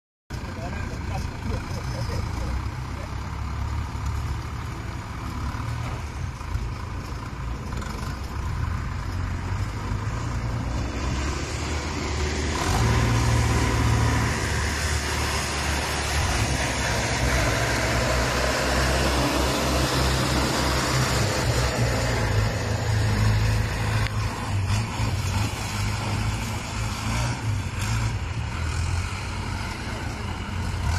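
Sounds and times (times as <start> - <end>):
wheel loader diesel engine running: 0.3 - 30.9.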